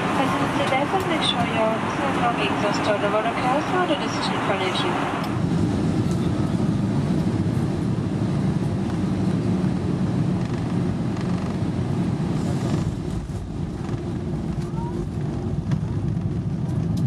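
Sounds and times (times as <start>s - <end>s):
jet engines roaring in cabin: 0.0s - 17.0s.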